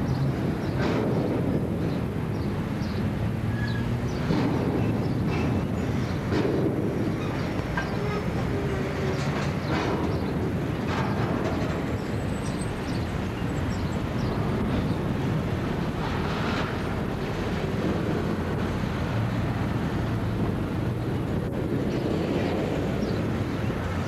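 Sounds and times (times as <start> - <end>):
freight train wagons rumbling: 0.0 - 24.0.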